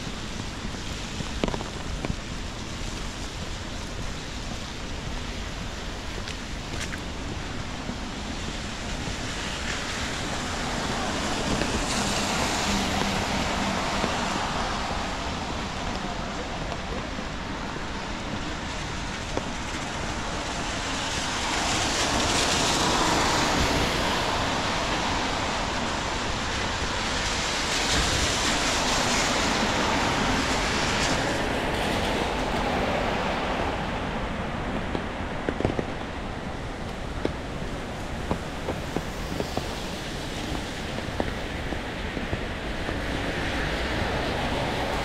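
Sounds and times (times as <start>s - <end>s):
rain and traffic on wet street: 0.0s - 45.0s.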